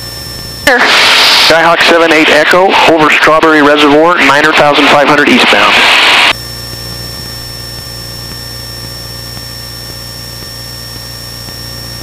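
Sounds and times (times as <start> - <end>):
airplane engine and propeller droning: 0.0 - 12.0
high-pitched whine: 0.0 - 12.0.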